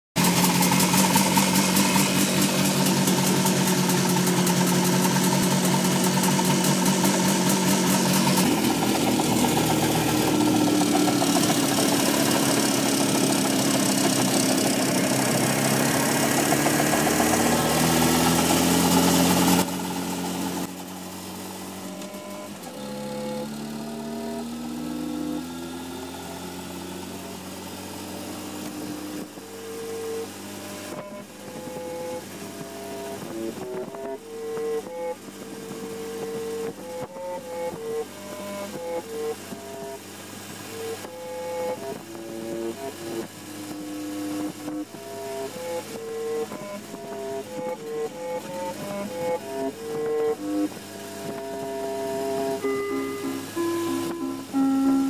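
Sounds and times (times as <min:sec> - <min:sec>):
buzzy synthesized music: 0:00.2 - 0:55.0.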